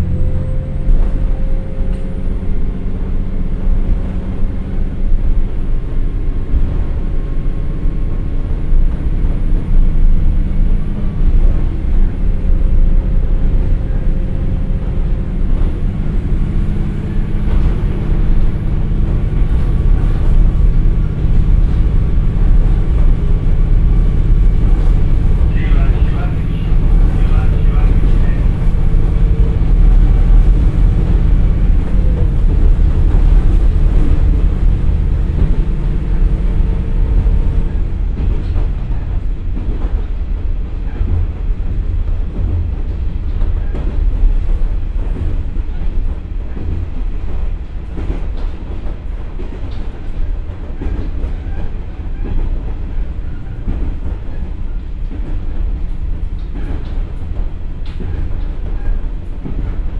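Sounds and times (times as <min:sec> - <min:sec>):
diesel railcar engine droning: 0:00.0 - 0:59.9
wheels rumbling on rails: 0:00.0 - 0:59.9.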